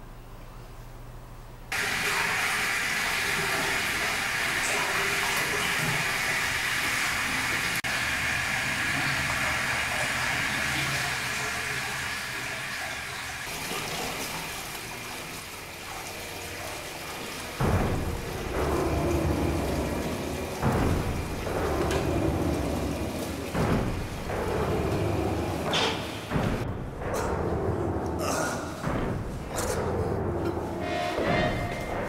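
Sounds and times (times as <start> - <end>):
rushing water-like noise: 1.7 - 32.0.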